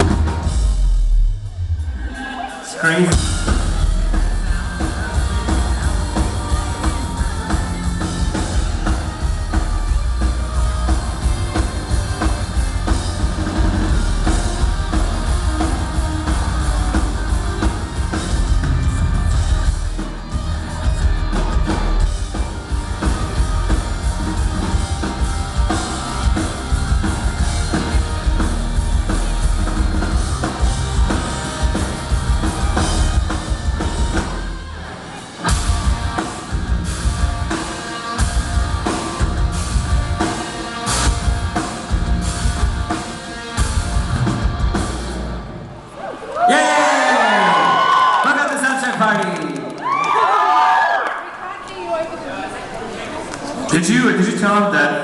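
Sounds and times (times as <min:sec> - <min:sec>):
drum kit and bass drum: 0:00.0 - 0:34.8, 0:35.4 - 0:45.6
rock band playing live: 0:00.0 - 0:48.3.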